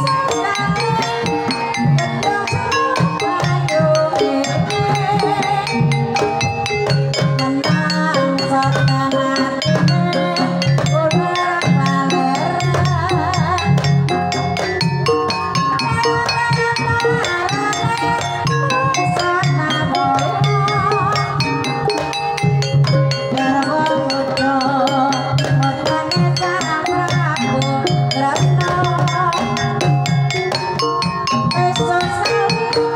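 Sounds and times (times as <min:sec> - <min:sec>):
woman singing with vibrato: 0:00.0 - 0:22.2, 0:23.2 - 0:32.9
metallophones: 0:00.0 - 0:32.9.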